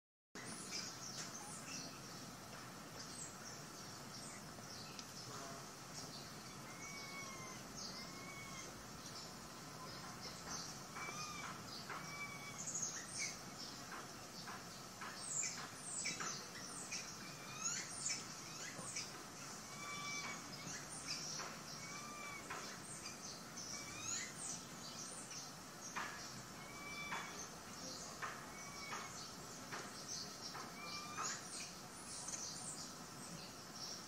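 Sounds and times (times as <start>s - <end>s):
birds chirping: 0.4s - 34.0s.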